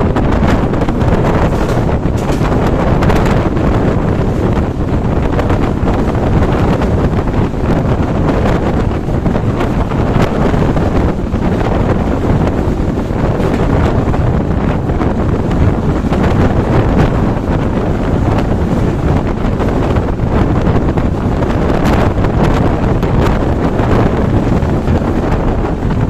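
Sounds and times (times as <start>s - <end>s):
moving train rumble: 0.0s - 26.0s
wind buffeting microphone: 0.0s - 26.0s.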